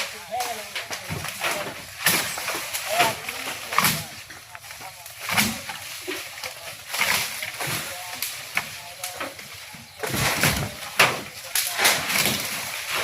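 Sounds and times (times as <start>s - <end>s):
leafy branches rustling and crackling: 0.0s - 13.0s.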